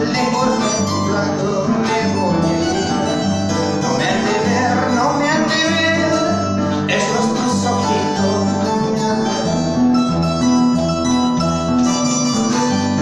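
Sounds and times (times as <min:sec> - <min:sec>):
harp melody: 0:00.0 - 0:13.0.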